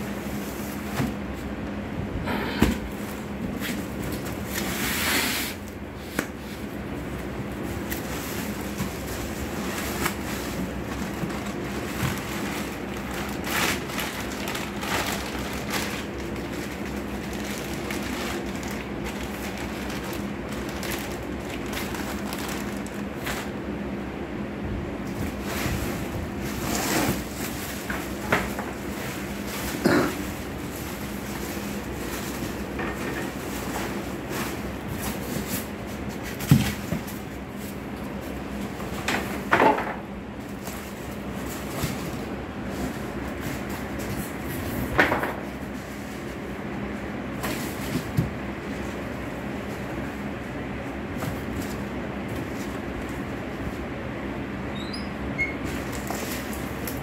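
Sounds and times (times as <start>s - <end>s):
plastic and cardboard rustling: 0.0s - 1.6s, 2.7s - 23.8s, 25.0s - 53.9s, 55.6s - 57.0s
steady low hum: 0.0s - 57.0s.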